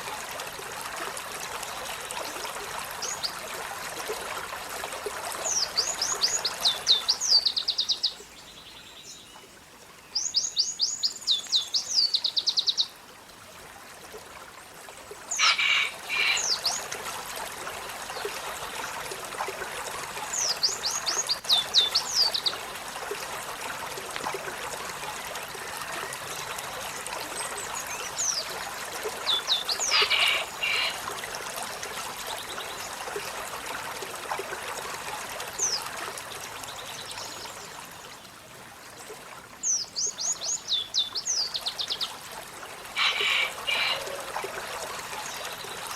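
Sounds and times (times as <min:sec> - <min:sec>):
water trickling: 0:00.0 - 0:45.9.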